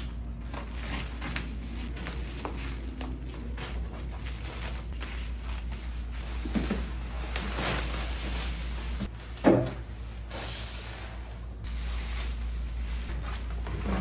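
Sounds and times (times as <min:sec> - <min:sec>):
packing paper and plastic rustling: 0:00.0 - 0:10.8, 0:11.6 - 0:14.0.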